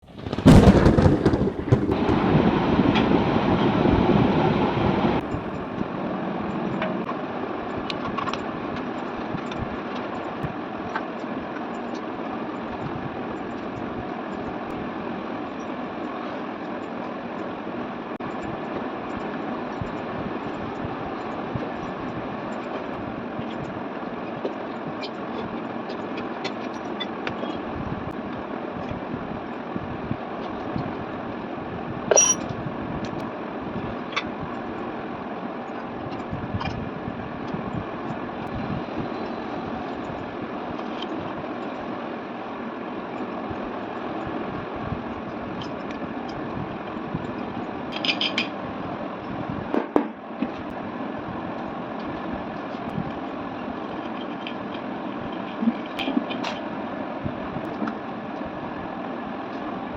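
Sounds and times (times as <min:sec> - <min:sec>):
ceiling fan whirring: 0:00.0 - 0:59.9.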